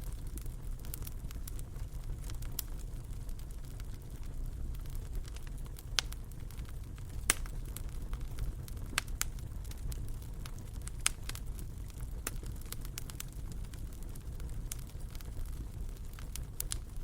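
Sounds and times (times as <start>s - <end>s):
fire crackles and pops: 0.0s - 17.0s
fire rumbling in fireplace: 0.0s - 17.0s.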